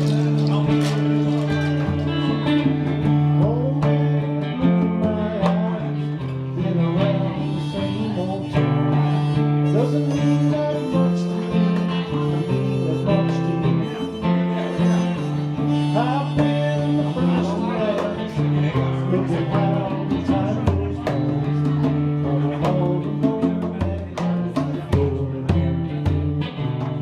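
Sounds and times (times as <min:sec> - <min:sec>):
live band music: 0:00.0 - 0:27.0
strummed acoustic guitar: 0:00.0 - 0:27.0.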